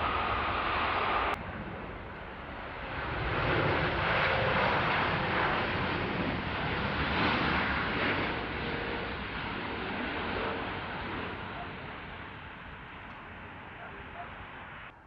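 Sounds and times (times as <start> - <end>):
jet airliner engines roaring: 0.0 - 15.0.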